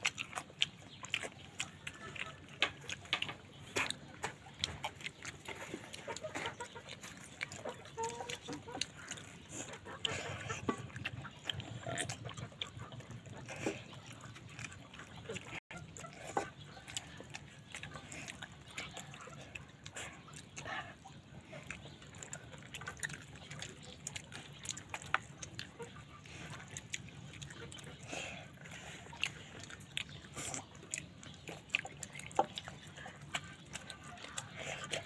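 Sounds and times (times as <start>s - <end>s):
person chewing with wet smacks: 0.0s - 35.0s.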